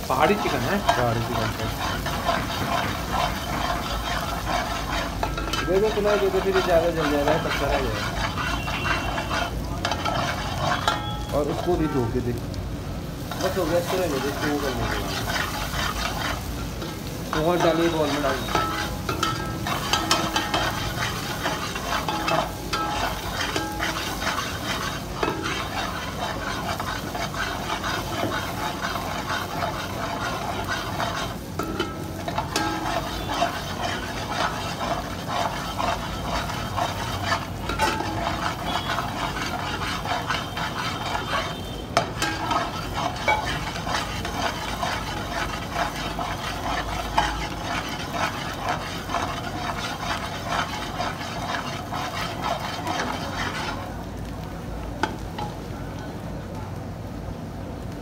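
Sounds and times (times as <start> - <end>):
onions sizzling in oil: 0.0 - 58.0
metal spoon scraping a pot: 0.1 - 12.0, 13.3 - 54.0.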